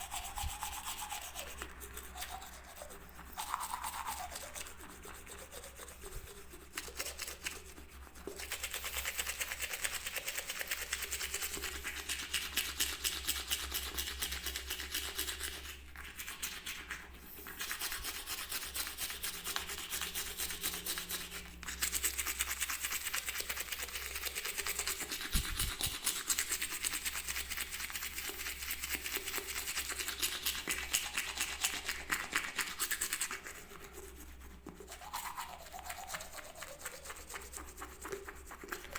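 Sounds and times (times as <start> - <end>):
toothbrush scrubbing: 0.0 - 38.9.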